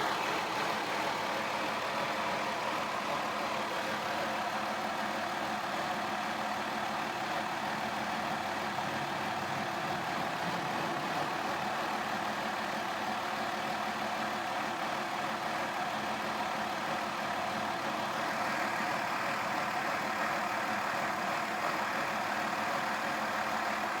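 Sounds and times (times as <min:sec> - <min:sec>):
car engine idling roughly with rattle: 0:00.0 - 0:24.0.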